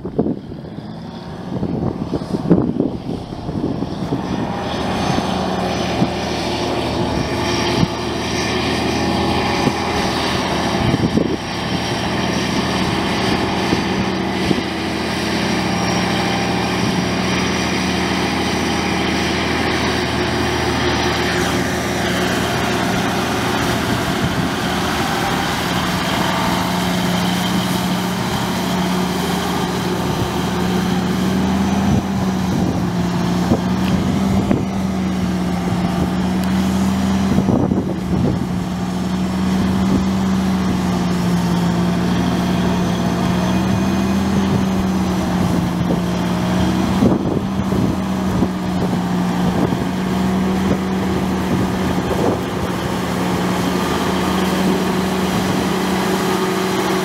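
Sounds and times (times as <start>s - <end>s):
tractor diesel engine drone: 0.0s - 57.0s.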